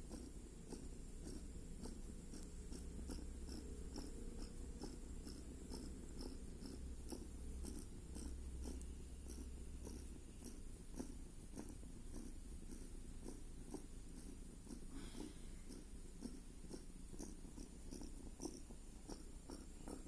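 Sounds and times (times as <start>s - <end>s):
cat snoring: 0.0s - 20.0s.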